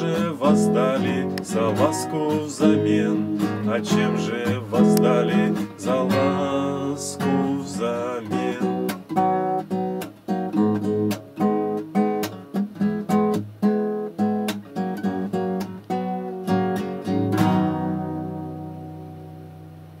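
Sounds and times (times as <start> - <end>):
classical guitar strummed chords: 0.0 - 20.0.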